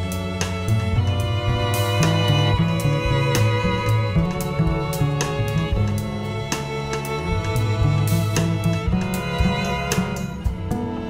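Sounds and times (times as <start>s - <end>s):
double bass line: 0.0s - 11.0s
drums on cymbals: 0.0s - 11.0s
strings holding sustained notes: 0.0s - 11.0s.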